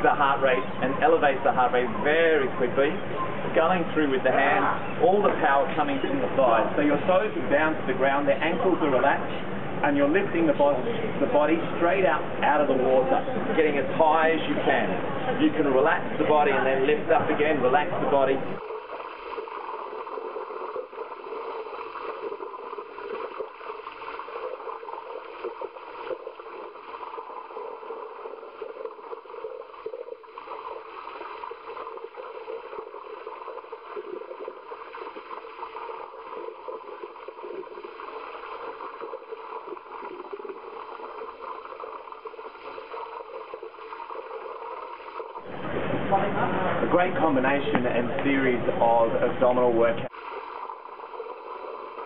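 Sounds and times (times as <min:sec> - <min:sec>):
pool water splashing: 0:00.0 - 0:47.9, 0:50.1 - 0:52.0.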